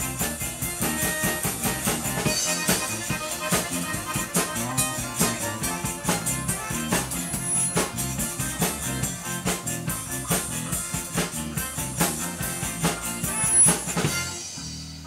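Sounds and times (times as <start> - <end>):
accordion: 0.0 - 15.0
drum kit steady beat: 0.0 - 15.0
electric guitar: 0.0 - 15.0.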